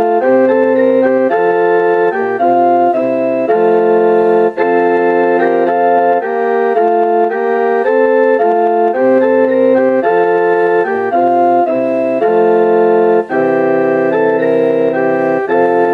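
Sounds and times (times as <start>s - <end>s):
electronic keyboard melody: 0.0s - 15.9s.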